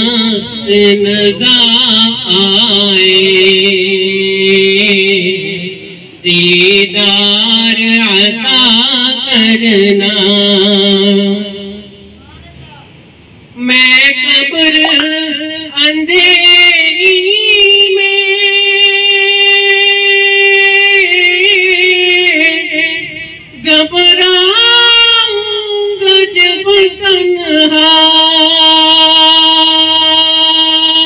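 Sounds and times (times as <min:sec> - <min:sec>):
man singing unaccompanied: 0:00.0 - 0:12.2, 0:13.6 - 0:31.0.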